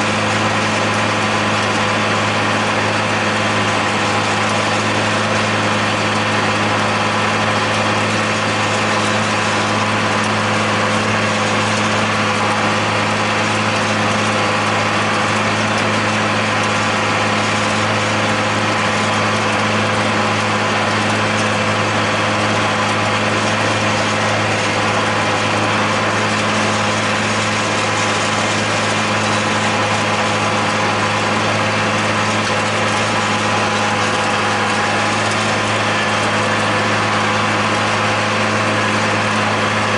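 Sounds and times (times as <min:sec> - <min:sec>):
mower cutter discs whirring: 0:00.0 - 0:39.9
tractor diesel engine running: 0:00.0 - 0:39.9.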